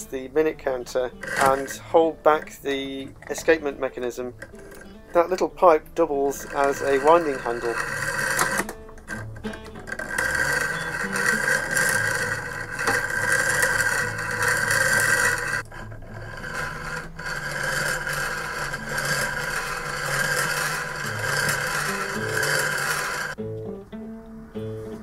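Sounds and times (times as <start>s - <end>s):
background music: 0.0s - 25.0s
wooden clicking and scraping: 1.0s - 5.5s, 6.3s - 23.4s.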